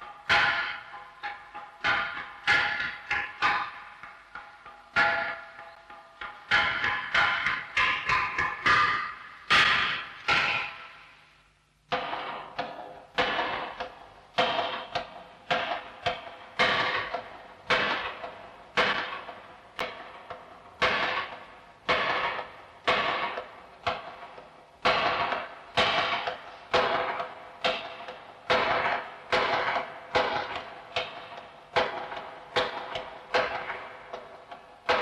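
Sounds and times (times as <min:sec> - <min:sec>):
wooden board struck with mallet: 0:00.0 - 0:11.2, 0:11.9 - 0:35.0.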